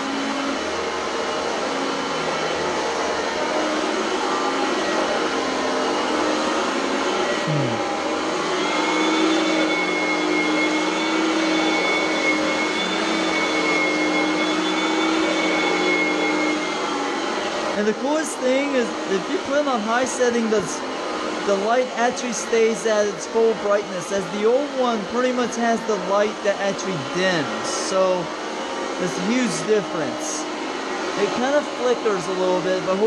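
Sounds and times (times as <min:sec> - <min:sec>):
upright vacuum cleaner running: 0:00.0 - 0:33.0.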